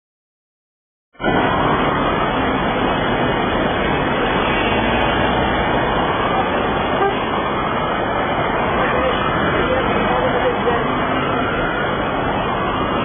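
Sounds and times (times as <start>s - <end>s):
traffic: 1.2s - 13.0s
murmur of a crowd: 1.3s - 13.0s.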